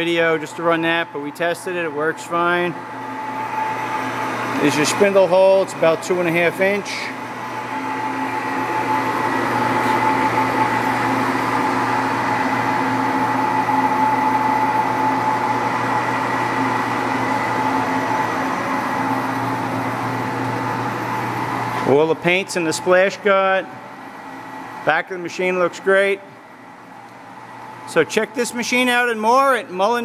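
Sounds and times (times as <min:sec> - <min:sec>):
lathe running: 0:00.0 - 0:30.0.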